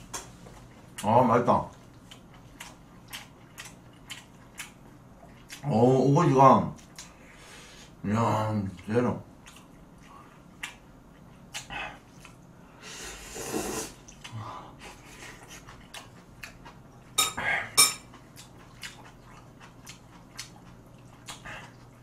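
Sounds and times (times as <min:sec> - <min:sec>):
noisy eating: 0:00.0 - 0:22.0.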